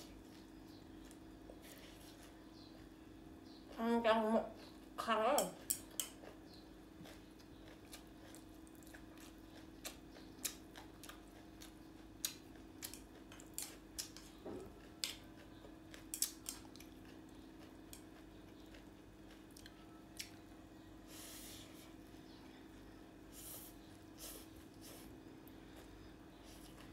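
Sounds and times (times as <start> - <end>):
soft chewing: 0.0 - 3.8, 4.4 - 26.9
faint steady hum: 0.0 - 26.9.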